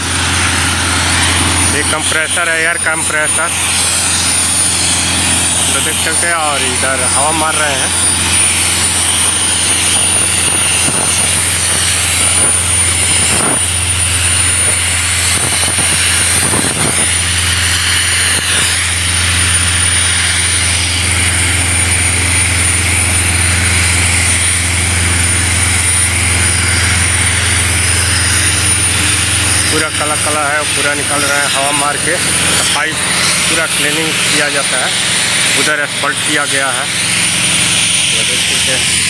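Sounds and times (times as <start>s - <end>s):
compressor low drone: 0.0s - 39.0s.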